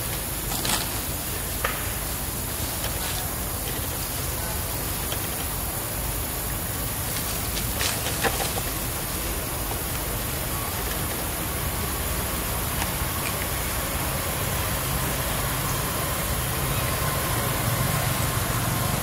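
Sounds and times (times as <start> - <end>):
outdoor rumble and hiss: 0.0 - 19.0.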